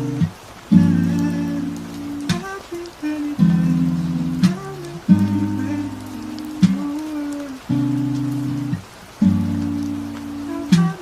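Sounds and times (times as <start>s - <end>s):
acoustic guitar strumming: 0.0s - 11.0s
rain hissing: 0.0s - 11.0s.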